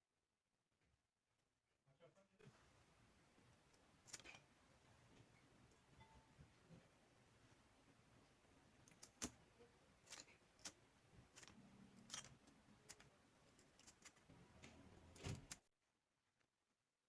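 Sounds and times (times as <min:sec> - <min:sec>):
low background noise: 0:01.9 - 0:15.6.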